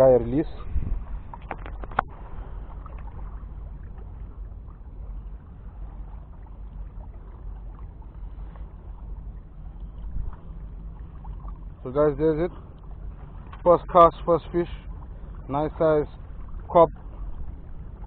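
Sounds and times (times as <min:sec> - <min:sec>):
harbour background rumble: 0:00.0 - 0:18.0.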